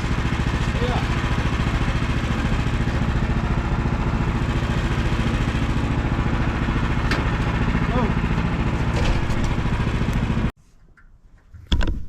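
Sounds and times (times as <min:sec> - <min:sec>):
engine idling: 0:00.0 - 0:10.5.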